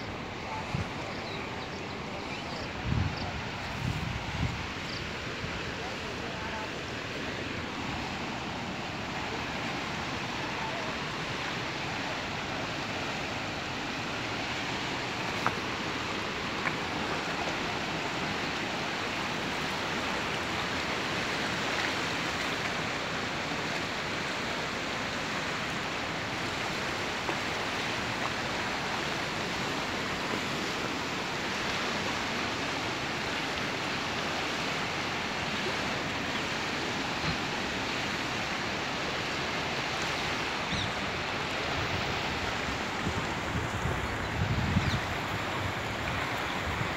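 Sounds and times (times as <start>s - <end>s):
fast-flowing river rushing: 0.0s - 46.9s.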